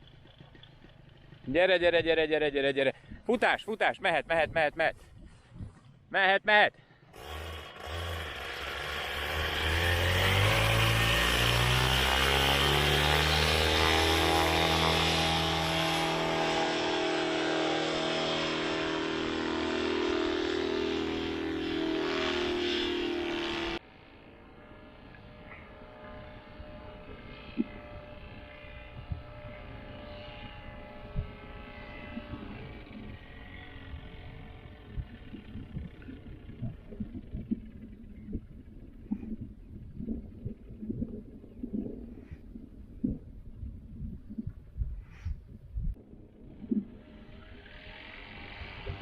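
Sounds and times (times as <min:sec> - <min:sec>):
paramotor engine and propeller: 0:00.0 - 0:04.0, 0:06.8 - 0:43.8, 0:44.5 - 0:49.0.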